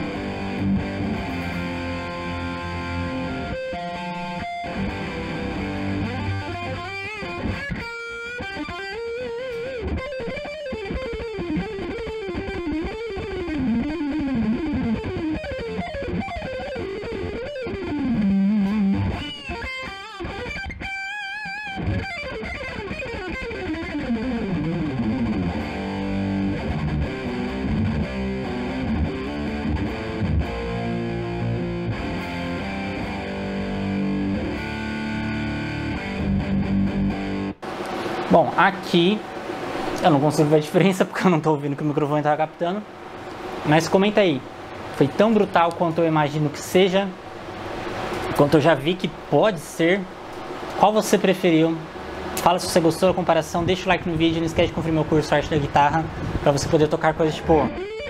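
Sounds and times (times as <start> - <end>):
distorted electric guitar: 0.0 - 41.0, 42.8 - 58.0.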